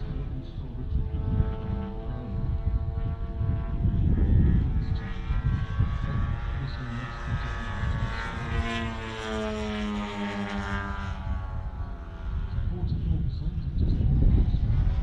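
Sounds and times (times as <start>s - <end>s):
model plane engines buzzing: 0.0s - 15.0s.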